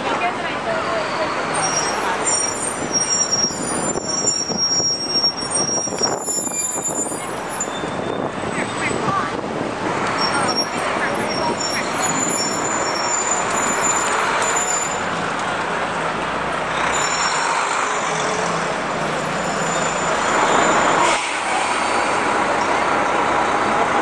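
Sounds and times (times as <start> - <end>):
busy street traffic passing: 0.0 - 24.0.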